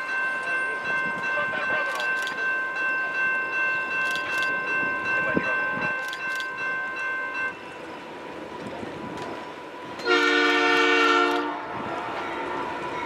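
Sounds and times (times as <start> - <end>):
railroad bell ringing: 0.0 - 13.0
train passing: 0.0 - 13.0.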